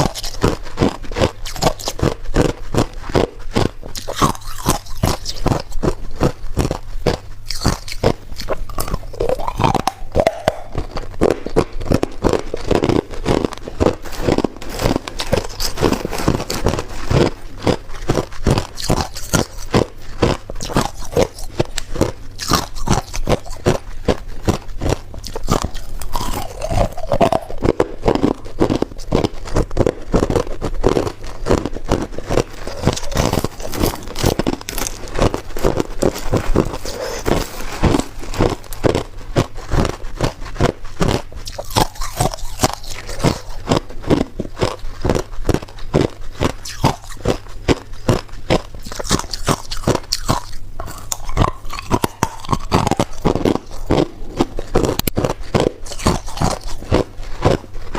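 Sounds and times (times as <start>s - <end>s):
ice crunching while chewed: 0.0s - 57.9s.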